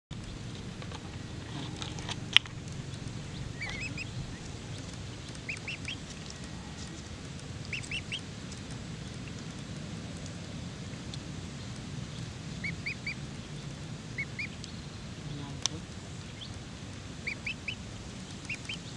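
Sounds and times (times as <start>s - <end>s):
ducklings peeping: 0.1s - 18.9s
low background hum: 0.1s - 18.9s.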